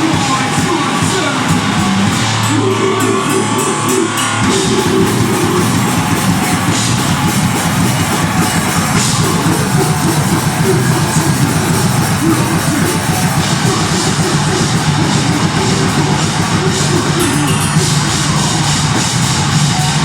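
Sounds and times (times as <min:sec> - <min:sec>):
bass guitar: 0:00.0 - 0:20.0
fast drums: 0:00.0 - 0:20.0
heavily distorted guitars: 0:00.0 - 0:20.0.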